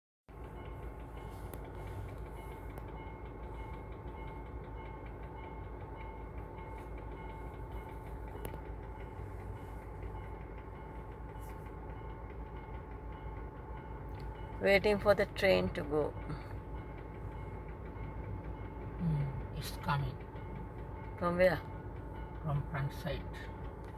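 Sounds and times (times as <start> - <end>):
constant high whine: 0.3 - 23.9
train idling rumble: 0.3 - 23.9.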